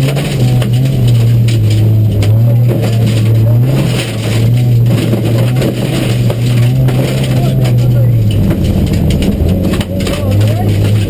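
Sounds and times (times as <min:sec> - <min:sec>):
car engine under load: 0:00.0 - 0:11.0
stones clicking against car: 0:00.0 - 0:11.0
tyres crunching gravel: 0:00.0 - 0:11.0.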